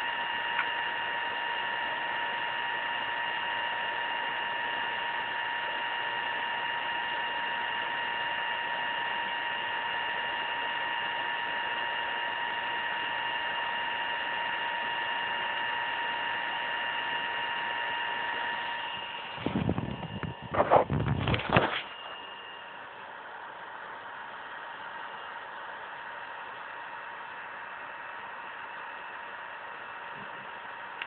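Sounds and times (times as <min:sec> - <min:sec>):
laptop cooling fan: 0:00.0 - 0:31.0.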